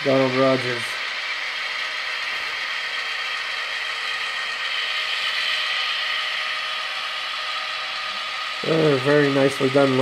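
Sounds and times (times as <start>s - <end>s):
model train whir and clatter: 0.0s - 10.0s.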